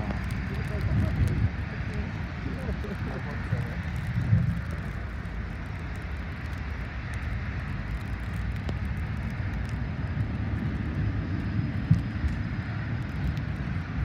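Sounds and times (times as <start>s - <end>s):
low rumble of vehicle noise: 0.0s - 14.0s.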